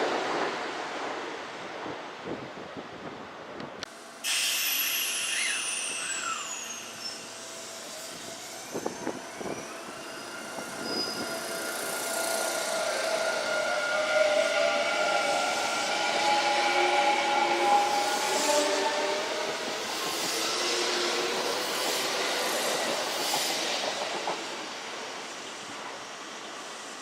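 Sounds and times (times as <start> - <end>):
electric train whine: 3.9 - 27.0.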